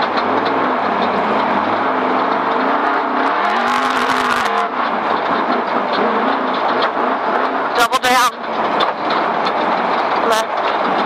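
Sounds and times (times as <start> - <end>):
rapid clattering over rocks: 0.0 - 3.2, 3.8 - 11.0
car engine revving: 0.0 - 11.0
tyres and bodywork rumbling: 0.0 - 11.0.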